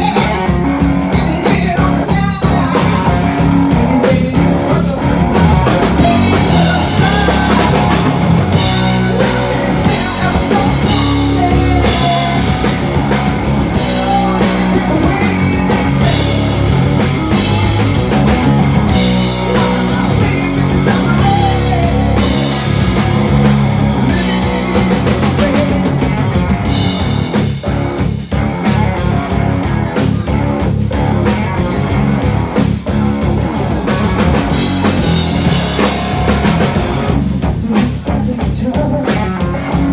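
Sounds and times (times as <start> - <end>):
rapid drum hits: 0.0 - 38.4
rock band playing: 0.0 - 39.9.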